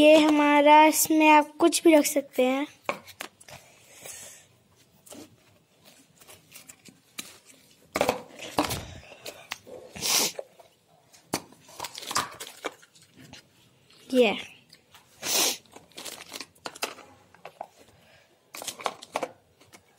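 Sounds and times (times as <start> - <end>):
plastic rustling and scraping: 2.9 - 19.9.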